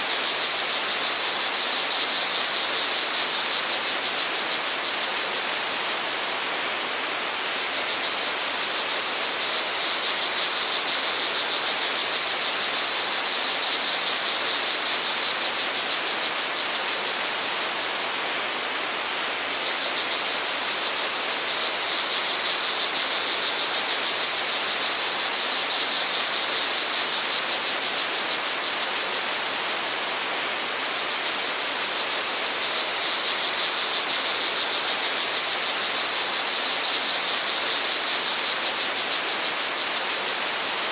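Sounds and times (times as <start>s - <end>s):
crickets trilling: 0.0s - 6.8s, 7.4s - 18.1s, 19.6s - 40.9s.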